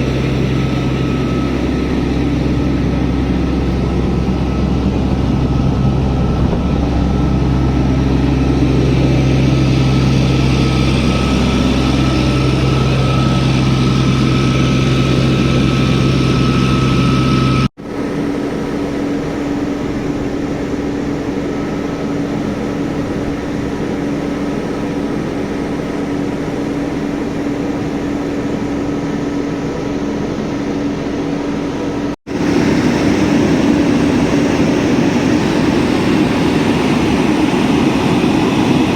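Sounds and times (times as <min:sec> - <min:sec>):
engine idling drone: 0:00.0 - 0:38.9.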